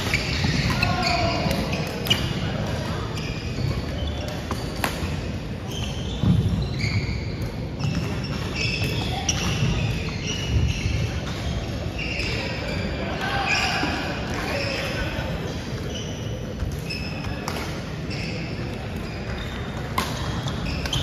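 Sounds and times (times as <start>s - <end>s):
shoes squeaking on gym floor: 0.0s - 21.0s.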